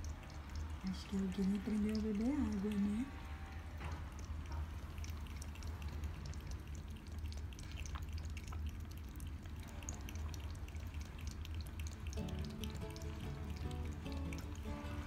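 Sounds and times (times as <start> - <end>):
puppy lapping water: 0.0 - 15.0.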